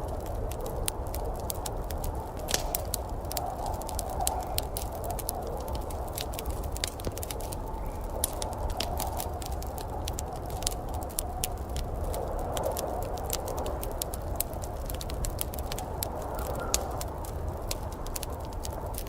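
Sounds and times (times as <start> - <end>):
fire crackling and popping: 0.0 - 19.0
fire hiss: 0.0 - 19.0
fire low rumble: 0.0 - 19.0.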